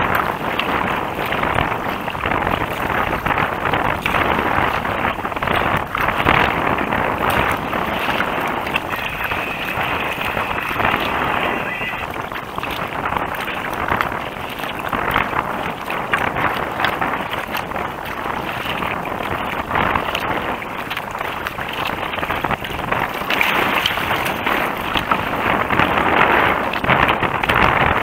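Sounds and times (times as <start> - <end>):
water splashing against kayak: 0.0 - 28.0
wind buffeting microphone: 0.0 - 28.0.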